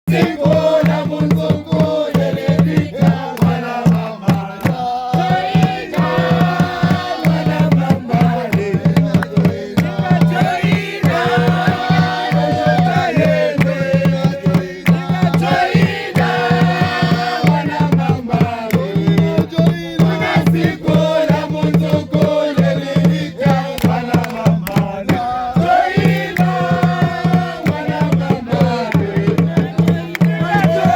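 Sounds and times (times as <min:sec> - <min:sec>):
fast steady drumming: 0:00.1 - 0:30.9
group of voices singing: 0:00.1 - 0:30.9.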